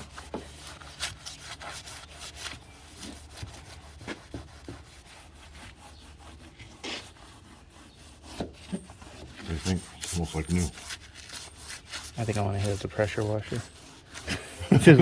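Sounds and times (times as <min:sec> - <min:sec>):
paper towel scrubbing dashboard: 0:00.0 - 0:15.0.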